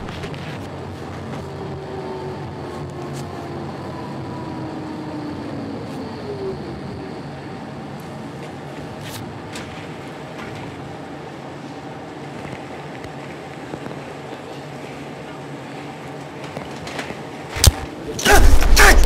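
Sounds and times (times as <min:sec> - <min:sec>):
tram running rumble: 0:00.0 - 0:19.0.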